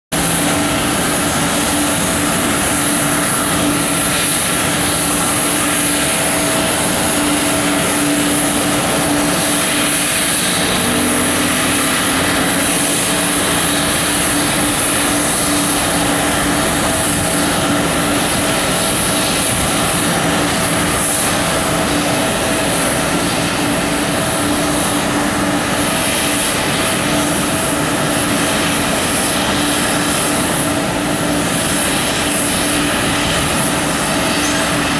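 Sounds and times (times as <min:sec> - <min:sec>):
jet turbine whine: 0:00.1 - 0:34.9
constant low hum: 0:00.2 - 0:34.9.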